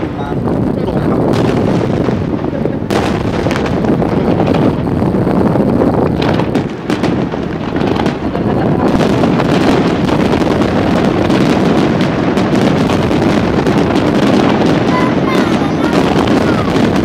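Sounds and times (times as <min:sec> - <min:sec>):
firework crackling: 0:00.0 - 0:17.0
firework shells booming: 0:00.0 - 0:17.0.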